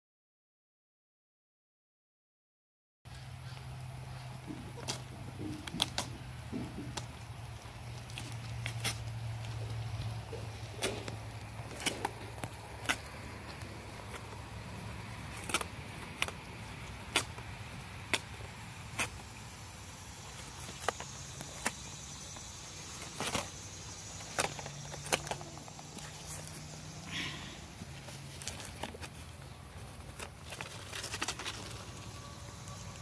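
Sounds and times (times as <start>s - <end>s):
faint steady hum: 3.1s - 33.0s
goat tearing cardboard: 3.7s - 33.0s.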